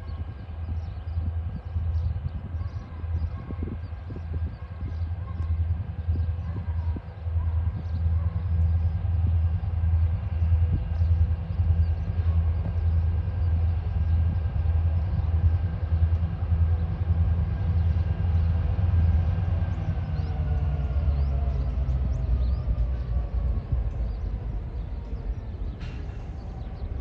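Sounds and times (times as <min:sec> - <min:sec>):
diesel locomotive engines pulsing hum: 0:00.0 - 0:27.0.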